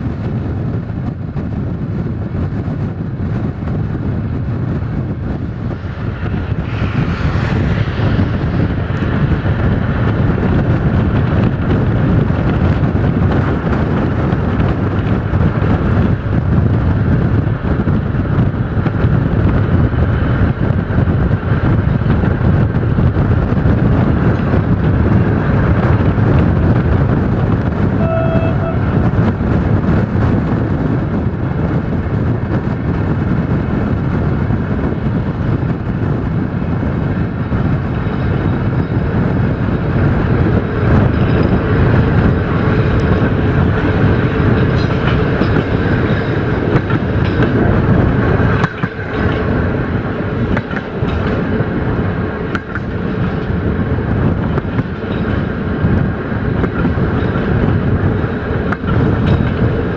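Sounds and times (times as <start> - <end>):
rushing air: 0.0 - 59.9
train wheels rumbling on rail: 0.0 - 59.9.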